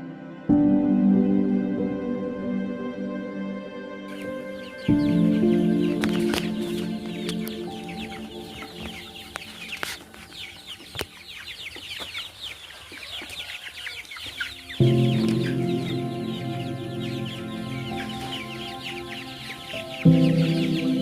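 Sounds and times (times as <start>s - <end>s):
background music: 0.0s - 12.0s, 14.3s - 21.0s
chicks cheeping: 4.1s - 21.0s.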